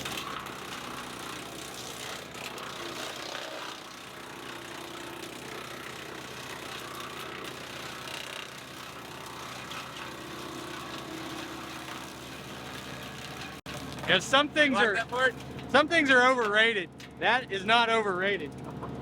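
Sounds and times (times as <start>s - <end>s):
wood chipper running: 0.0s - 19.0s.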